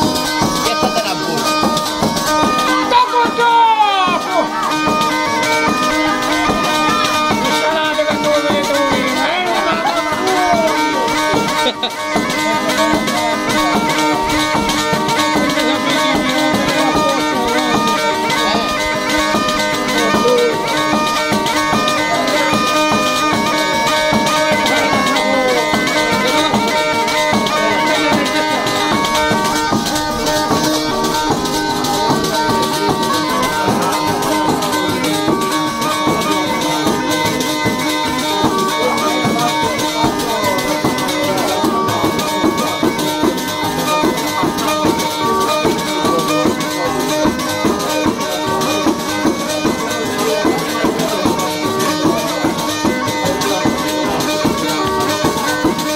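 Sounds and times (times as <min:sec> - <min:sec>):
bagpipe playing a dance tune: 0:00.0 - 0:55.9
frame drum beating and jingling: 0:00.0 - 0:55.9.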